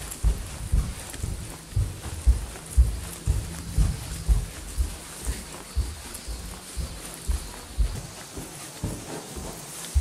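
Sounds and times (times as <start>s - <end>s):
footsteps on wooden floor: 0.0s - 10.0s.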